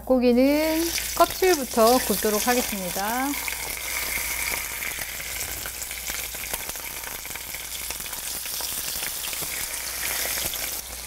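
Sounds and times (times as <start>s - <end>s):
chicken sizzling in oil: 0.4s - 11.0s.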